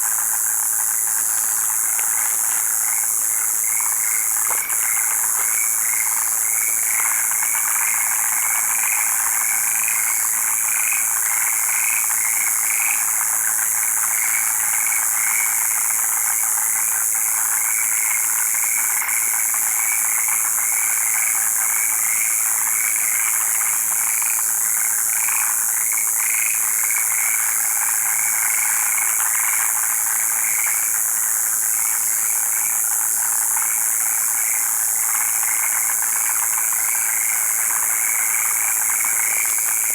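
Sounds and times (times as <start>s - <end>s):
constant high hiss: 0.0s - 39.9s
frogs croaking: 0.0s - 39.9s.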